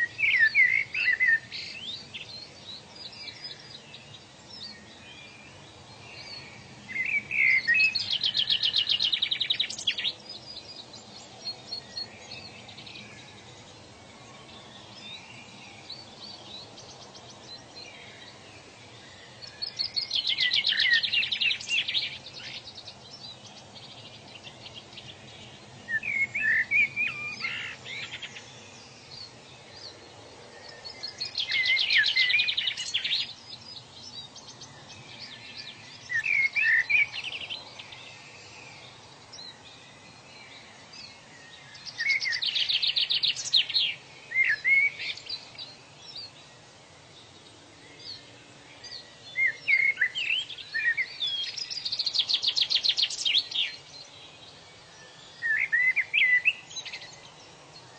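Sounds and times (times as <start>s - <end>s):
faint background hiss: 0.0s - 57.9s
songbird singing: 0.0s - 57.9s.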